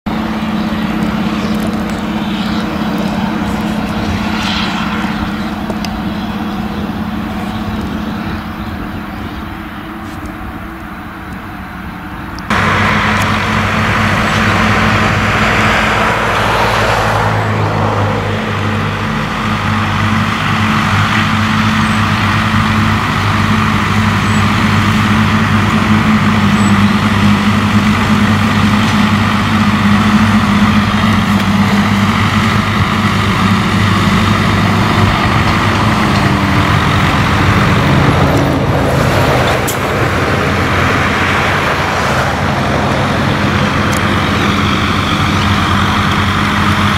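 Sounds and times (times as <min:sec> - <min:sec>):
tractor engine drone: 0:00.0 - 0:46.9
mulcher rotor whirring: 0:00.1 - 0:46.9.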